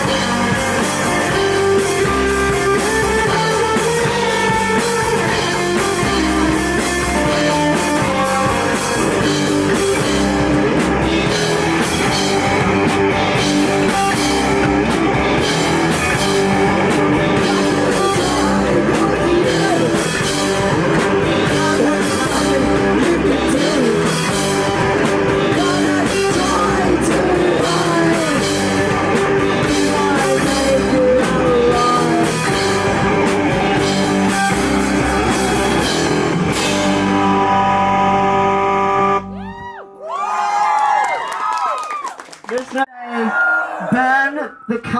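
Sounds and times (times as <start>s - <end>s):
rock band playing live: 0.0s - 40.2s.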